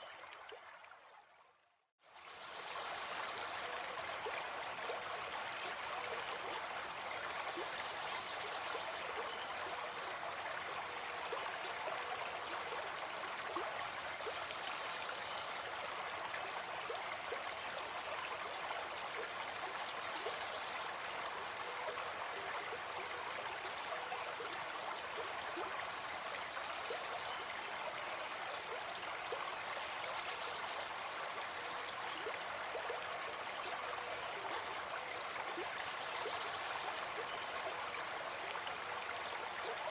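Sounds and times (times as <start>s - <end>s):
stream babbling: 2.2s - 39.9s.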